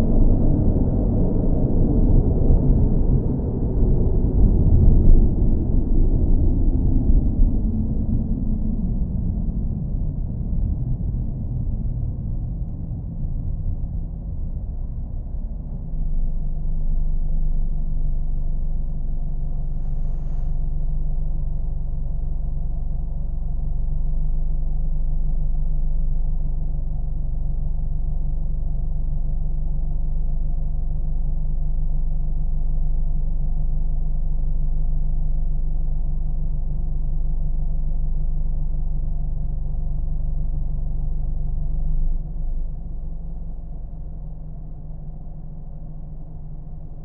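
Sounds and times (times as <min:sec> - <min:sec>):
car engine running: 0:00.0 - 0:47.0.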